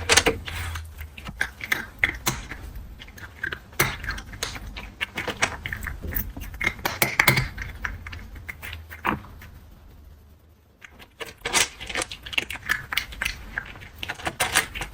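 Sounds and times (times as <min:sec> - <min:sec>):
cat crunching dry kibble: 0:00.0 - 0:09.6, 0:10.8 - 0:14.9.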